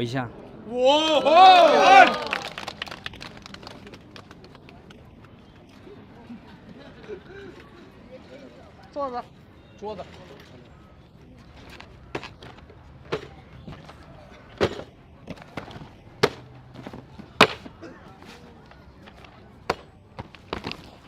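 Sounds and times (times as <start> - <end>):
faint background murmur: 0.0 - 21.0.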